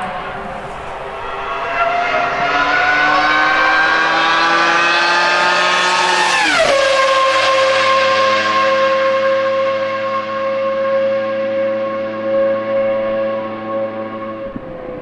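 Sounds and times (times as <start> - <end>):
racing car engine at full throttle: 0.0 - 15.0.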